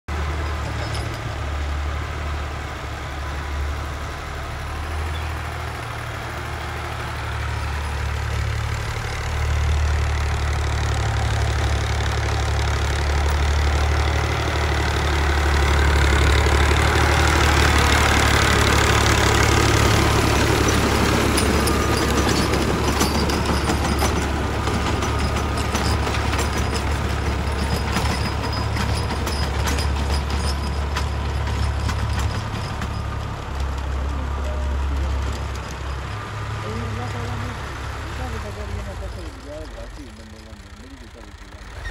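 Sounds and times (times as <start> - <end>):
tractor diesel engine running: 0.1 - 41.9.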